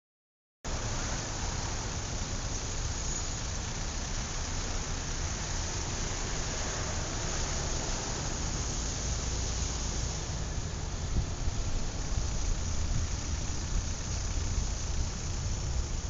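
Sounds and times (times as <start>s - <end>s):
road traffic hiss and rumble: 0.7s - 16.0s.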